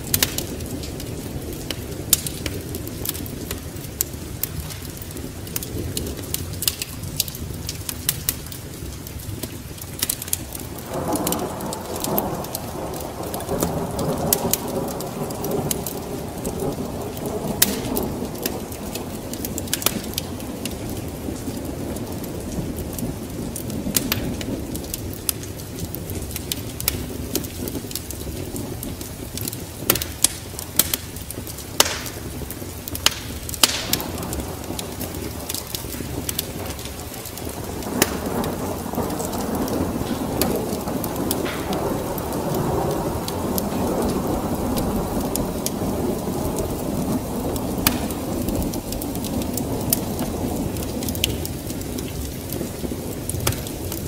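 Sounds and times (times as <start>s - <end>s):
steady rain: 0.0s - 54.0s
thunder rumbling: 0.0s - 54.0s
wood fire crackling: 0.0s - 54.0s.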